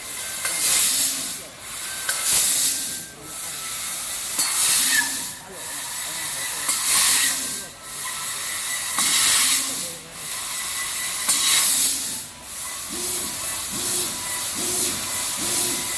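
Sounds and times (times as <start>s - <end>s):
assist gas hissing: 0.0s - 15.9s.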